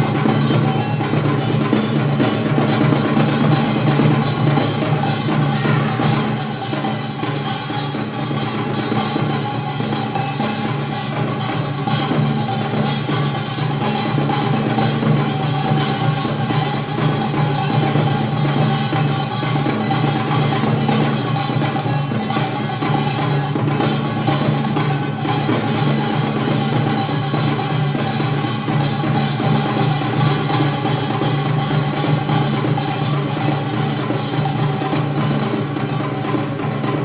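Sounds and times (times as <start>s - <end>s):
percussion ensemble drums and gongs: 0.0s - 37.0s.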